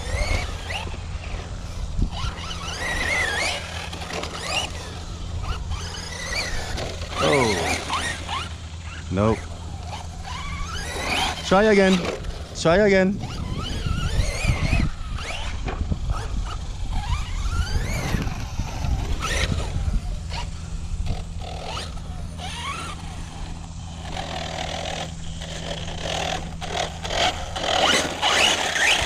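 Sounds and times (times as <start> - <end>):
electric motor whining: 0.0 - 29.0
tyres churning dirt: 0.0 - 29.0.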